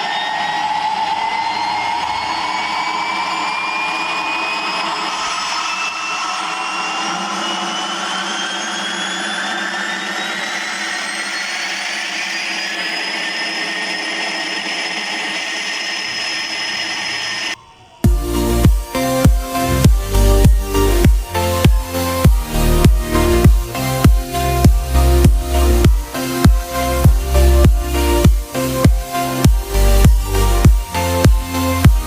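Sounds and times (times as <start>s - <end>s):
rising mechanical whine: 0.0s - 32.0s
rushing noise: 0.0s - 32.0s.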